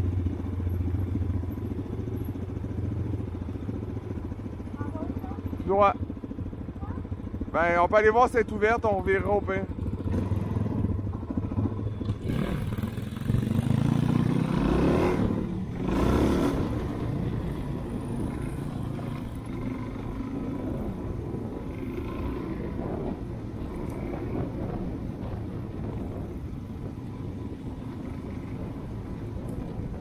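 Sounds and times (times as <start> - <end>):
dirt bike engine: 0.0 - 30.0.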